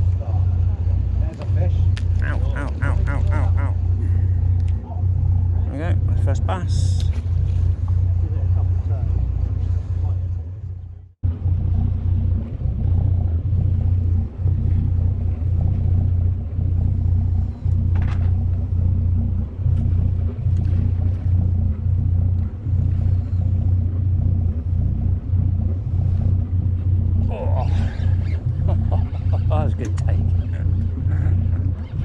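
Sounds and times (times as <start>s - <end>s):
boat engine rumbling: 0.0s - 32.0s.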